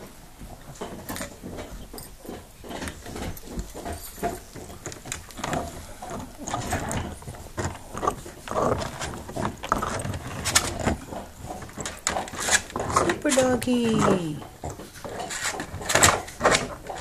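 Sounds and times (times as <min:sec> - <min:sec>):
dog gnawing on a bone: 0:00.4 - 0:17.0.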